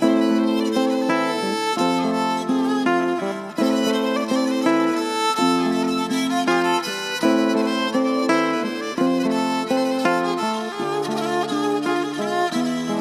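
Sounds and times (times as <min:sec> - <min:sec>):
fiddle melody: 0:00.0 - 0:13.0.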